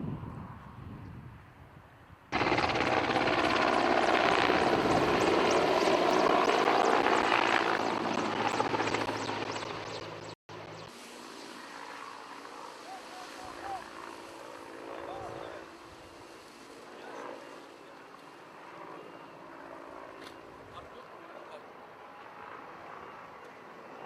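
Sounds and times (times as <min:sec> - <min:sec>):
helicopter rotor and engine: 0:02.3 - 0:24.0.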